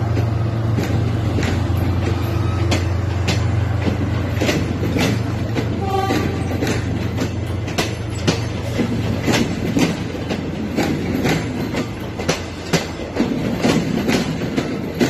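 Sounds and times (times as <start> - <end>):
train rumble: 0.0 - 15.0
train wheels clacking: 0.0 - 15.0.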